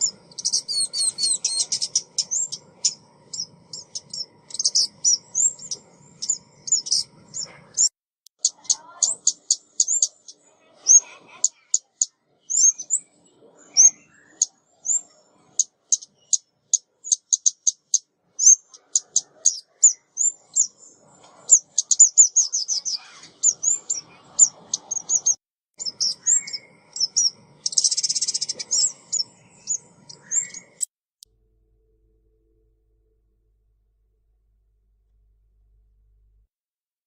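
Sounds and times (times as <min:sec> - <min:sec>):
songbird chirping: 0:00.0 - 0:30.9.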